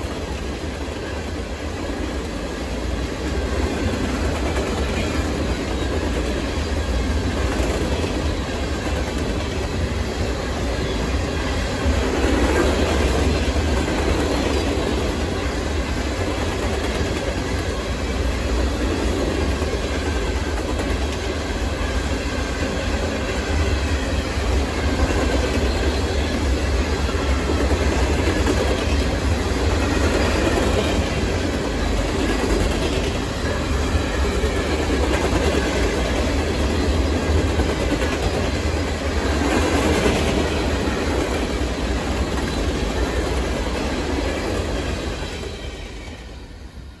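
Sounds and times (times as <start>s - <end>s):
freight train wheels on rails: 0.0s - 47.0s.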